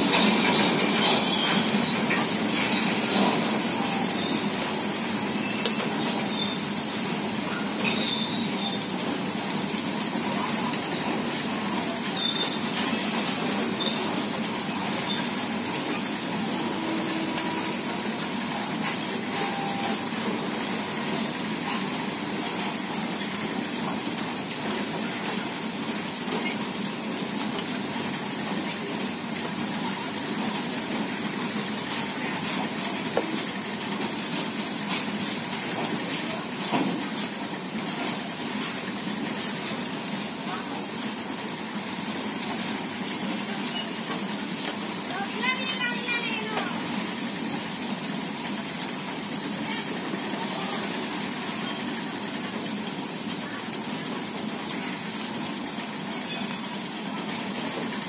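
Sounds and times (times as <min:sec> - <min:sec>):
train wheels clattering on rails: 0:00.0 - 0:47.2.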